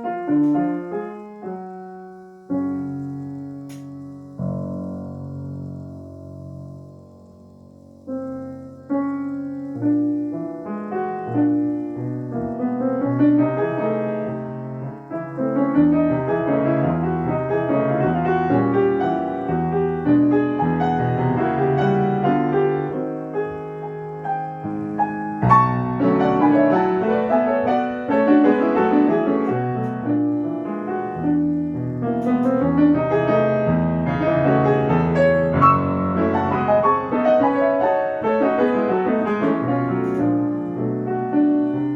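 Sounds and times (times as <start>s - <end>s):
solo piano classical piece: 0.0s - 41.9s.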